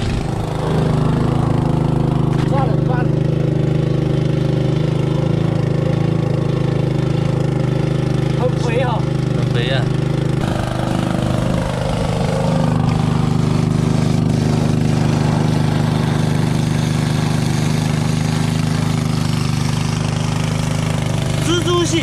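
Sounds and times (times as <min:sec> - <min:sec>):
engine-driven water pump running: 0:00.0 - 0:22.0.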